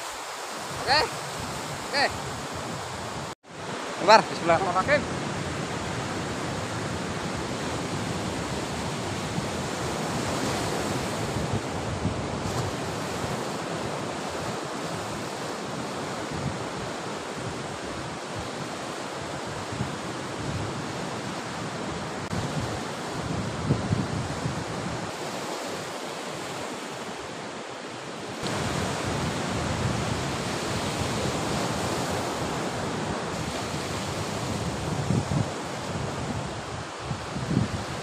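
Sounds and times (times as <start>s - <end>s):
waves breaking on shore: 0.0s - 38.0s.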